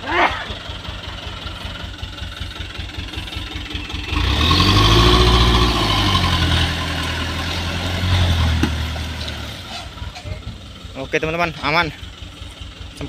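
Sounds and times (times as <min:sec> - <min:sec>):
truck diesel engine pulling hard: 0:00.0 - 0:13.0.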